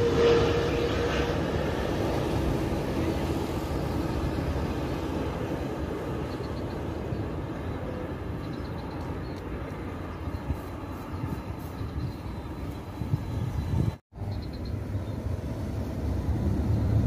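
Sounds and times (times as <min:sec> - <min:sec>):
jet airliner engines rushing: 0:00.0 - 0:17.0.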